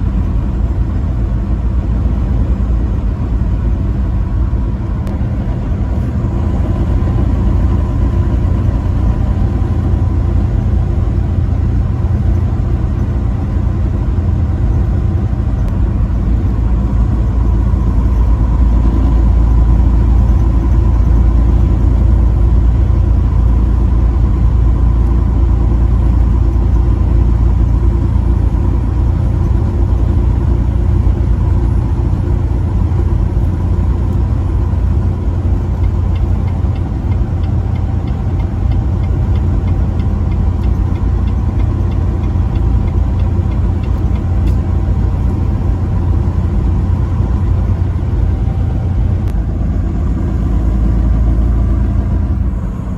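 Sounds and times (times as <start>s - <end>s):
engine and road rumble: 0.0s - 52.9s.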